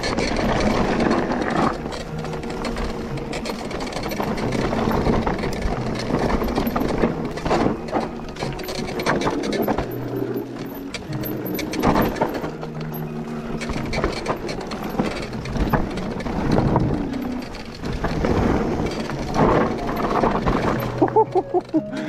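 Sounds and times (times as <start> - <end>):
bike rattling: 0.0 - 22.0
tyres rolling over stones: 0.0 - 22.0.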